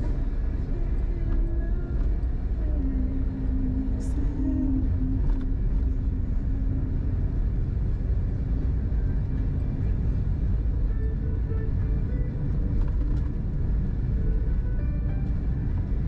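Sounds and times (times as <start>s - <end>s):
car driving slowly rumble: 0.0s - 16.0s.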